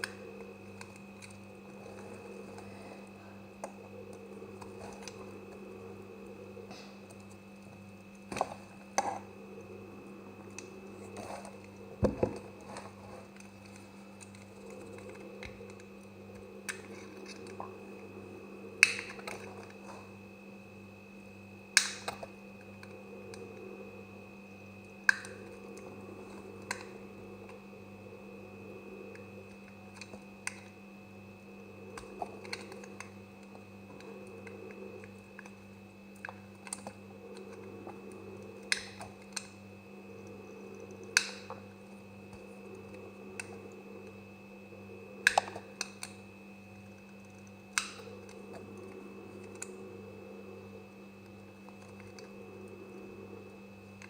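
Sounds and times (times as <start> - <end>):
background hum: 0.0 - 54.0.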